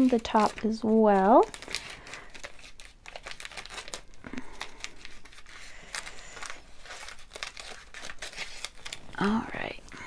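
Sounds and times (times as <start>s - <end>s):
plastic sheet crinkling: 0.0s - 10.0s.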